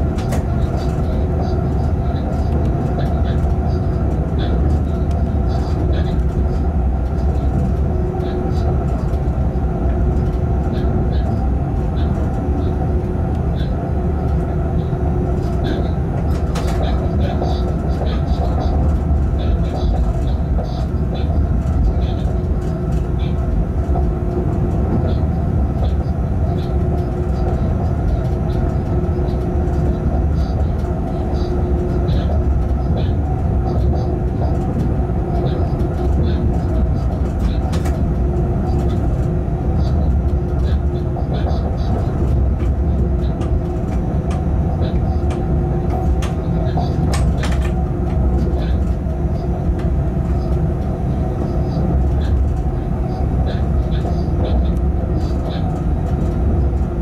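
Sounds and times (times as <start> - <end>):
faint hum: 0.0 - 57.0
train wheels rumbling on rails: 0.0 - 57.0.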